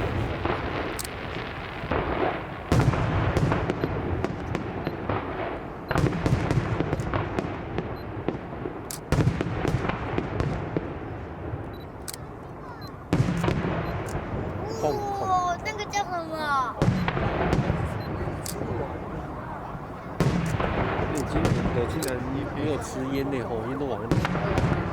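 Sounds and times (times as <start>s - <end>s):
fireworks booming: 0.0s - 24.9s
fireworks popping and crackling: 0.0s - 24.9s.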